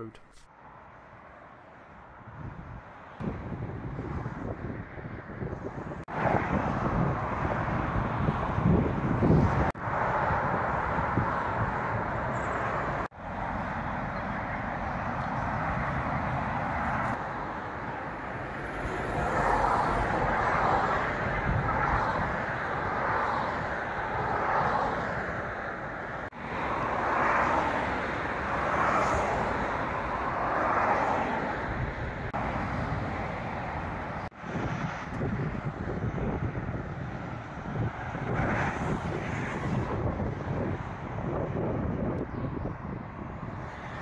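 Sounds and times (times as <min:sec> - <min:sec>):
traffic passing: 0:00.0 - 0:44.0.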